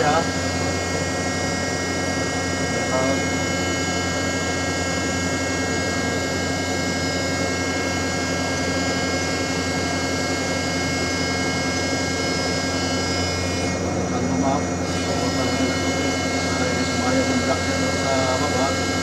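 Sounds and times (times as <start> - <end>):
crane machinery humming and whining: 0.0 - 19.0.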